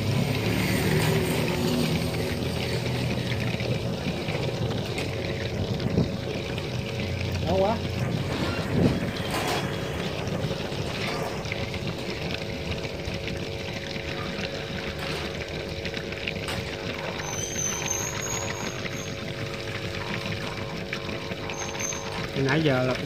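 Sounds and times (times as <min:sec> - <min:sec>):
air bubbling through liquid: 0:00.0 - 0:23.0.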